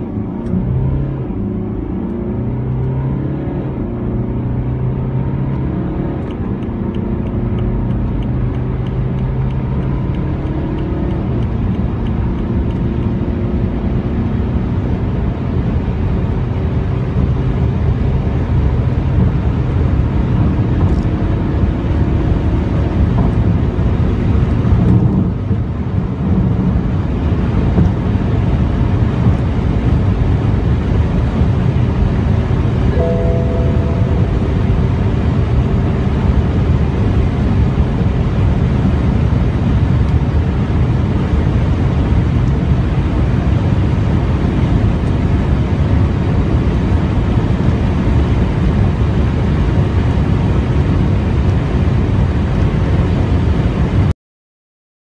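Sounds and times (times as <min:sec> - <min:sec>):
car engine accelerating: 0:00.0 - 0:54.0
road and wind noise: 0:00.0 - 0:54.1.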